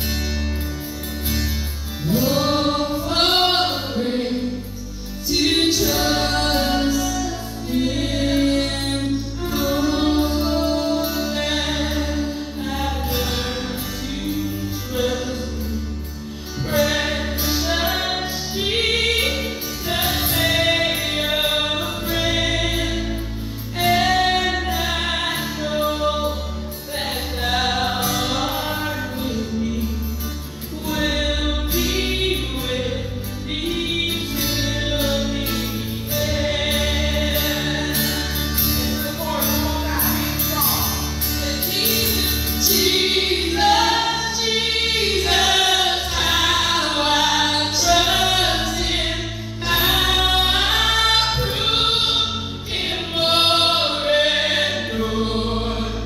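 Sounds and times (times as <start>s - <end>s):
women singing: 2.0s - 56.0s.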